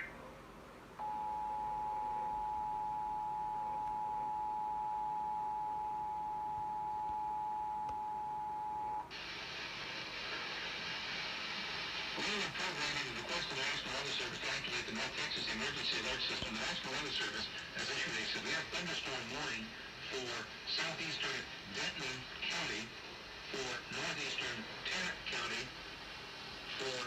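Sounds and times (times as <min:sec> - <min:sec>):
broadcast static hiss: 0:00.0 - 0:27.0.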